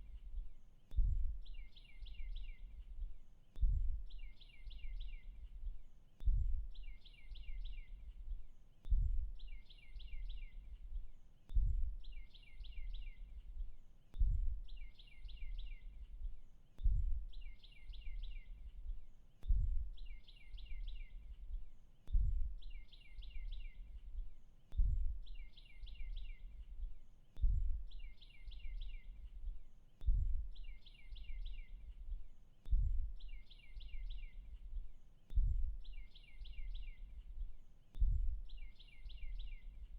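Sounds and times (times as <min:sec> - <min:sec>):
songbird trill: 0:00.0 - 0:39.9.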